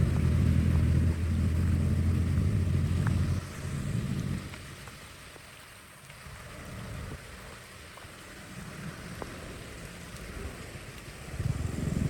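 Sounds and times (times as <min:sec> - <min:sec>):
rushing water rumble: 0:00.0 - 0:12.0.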